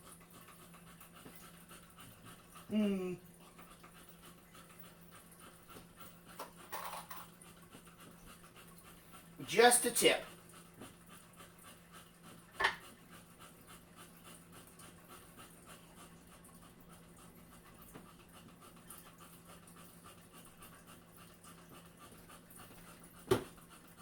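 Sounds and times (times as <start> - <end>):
dog panting: 0.0 - 24.0.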